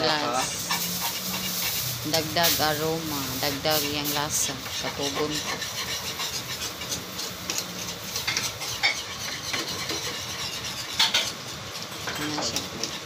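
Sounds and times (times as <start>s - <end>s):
whisk swishing in metal pan: 0.4s - 13.0s.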